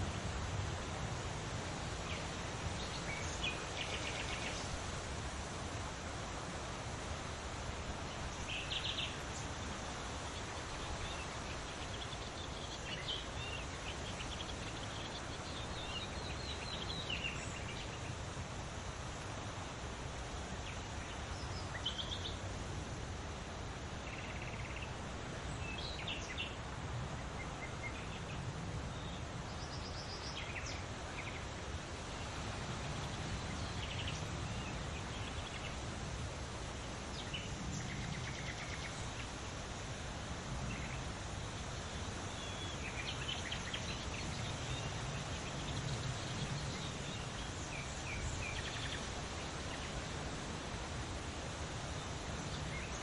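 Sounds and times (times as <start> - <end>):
steady outdoor noise: 0.0 - 53.0.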